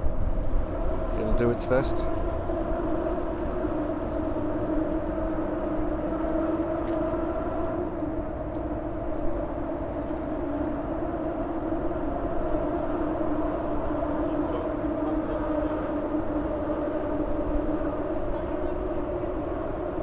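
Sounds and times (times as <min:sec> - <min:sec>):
tyres humming on steel bridge deck: 0:00.0 - 0:20.0.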